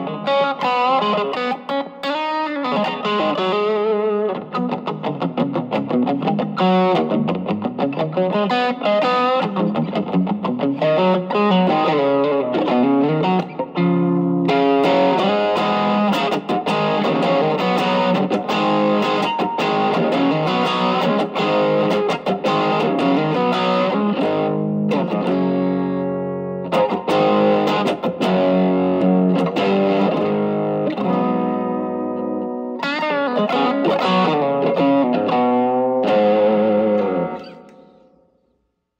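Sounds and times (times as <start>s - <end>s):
overdriven electric guitar: 0.0s - 38.6s.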